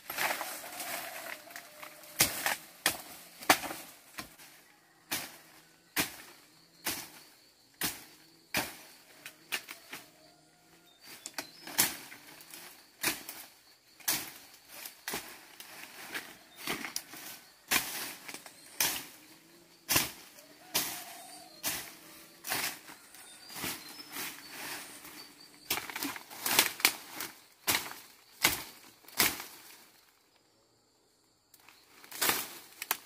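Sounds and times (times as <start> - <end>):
hand tool striking ground: 0.0 - 4.4, 5.0 - 9.9, 11.1 - 29.6.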